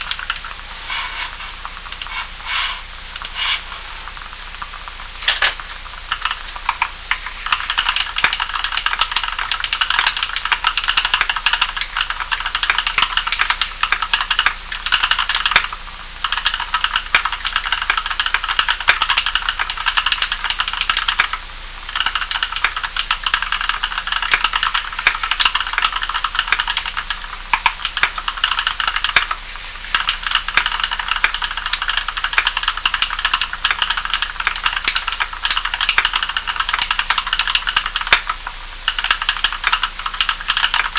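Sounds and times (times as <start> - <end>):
mechanical keyboard typing: 0.0 - 1.0, 4.6 - 40.9.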